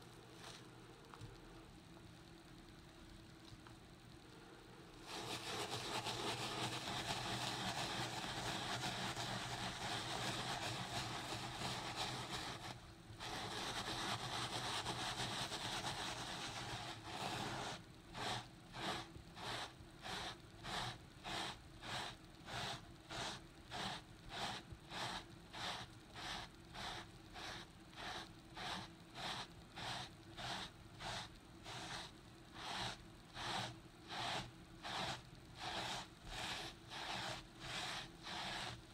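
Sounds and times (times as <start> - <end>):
brush scrubbing carpet: 5.1 - 38.9.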